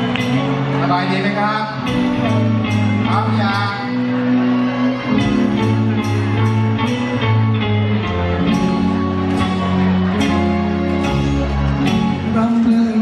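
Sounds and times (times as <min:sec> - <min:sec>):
guitar: 0:00.0 - 0:13.0
held bass notes: 0:00.0 - 0:13.0
pop song over loudspeakers: 0:00.0 - 0:13.0.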